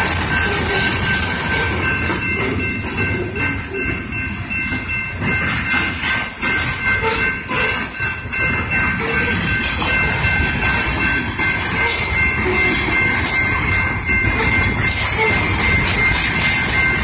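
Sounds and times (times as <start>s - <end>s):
train wheels clacking over rails: 0.0s - 17.0s.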